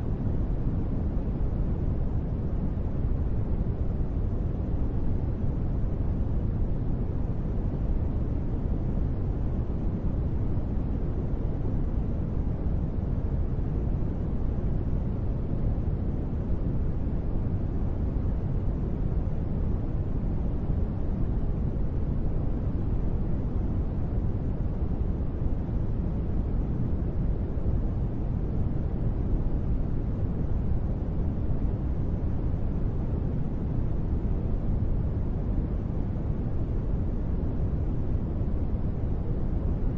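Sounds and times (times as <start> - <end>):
deep white noise rush: 0.0 - 39.9.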